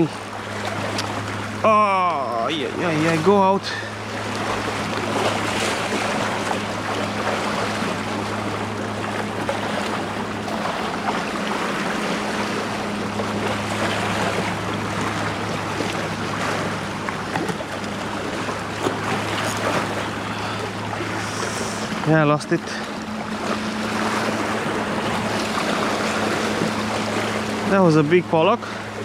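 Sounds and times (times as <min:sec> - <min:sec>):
sea waves washing: 0:00.0 - 0:29.0
steady low hum: 0:00.0 - 0:29.0
wind: 0:00.0 - 0:29.0.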